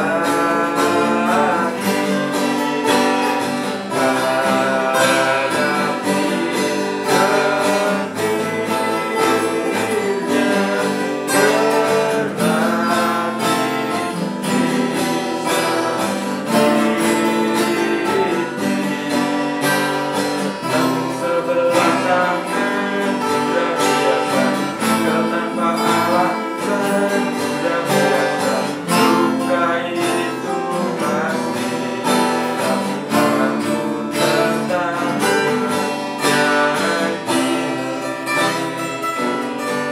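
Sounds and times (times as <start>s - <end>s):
acoustic guitars strummed and picked: 0.0s - 39.9s
man singing: 0.0s - 39.9s.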